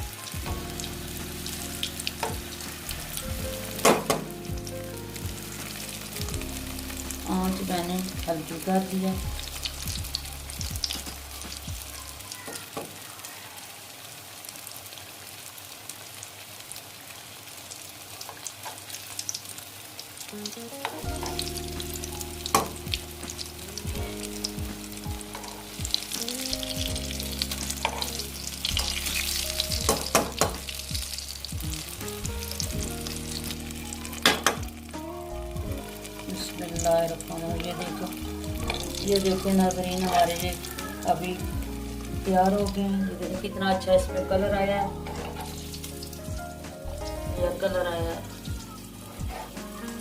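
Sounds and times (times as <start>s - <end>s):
soft background music: 0.0s - 12.4s, 20.3s - 50.0s
food sizzling in oil: 0.0s - 50.0s.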